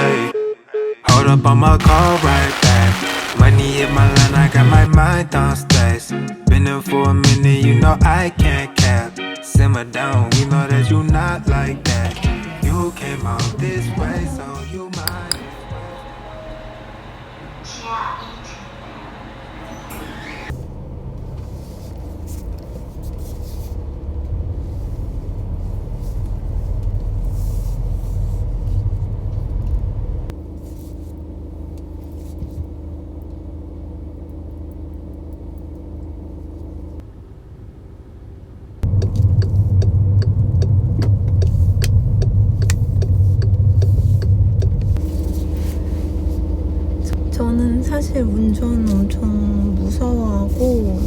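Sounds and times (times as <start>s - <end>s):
car engine and tyres rumble: 7.1s - 17.7s, 19.2s - 51.0s.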